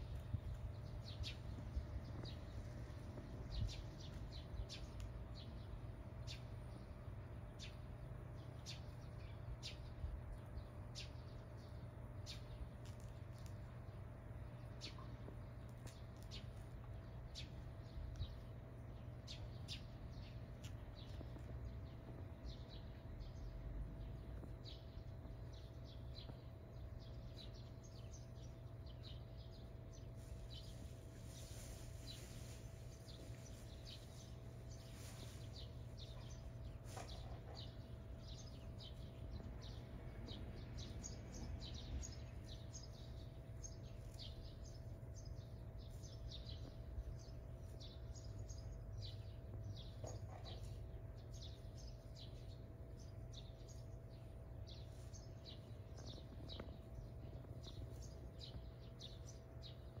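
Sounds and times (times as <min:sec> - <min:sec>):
faint steady hum: 0:00.0 - 1:00.0
low outdoor rumble: 0:00.0 - 1:00.0
small birds chirping: 0:00.0 - 1:00.0.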